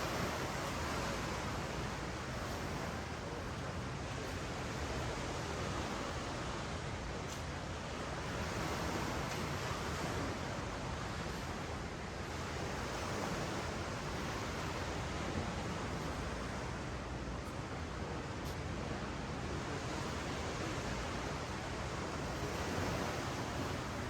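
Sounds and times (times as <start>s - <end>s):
ocean surf washing on sand: 0.0s - 24.0s.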